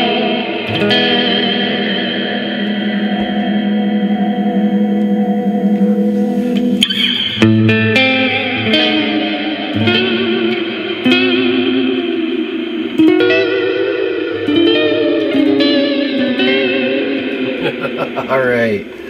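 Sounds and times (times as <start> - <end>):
electric guitar with reverb: 0.0 - 19.0.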